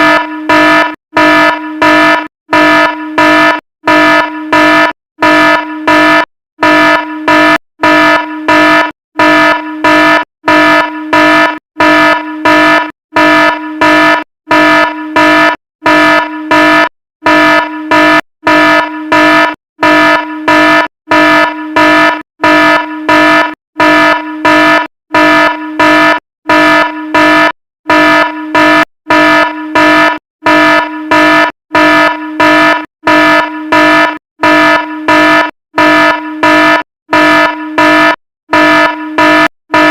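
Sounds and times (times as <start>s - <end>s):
fire alarm horn blasts: 0.0s - 39.9s.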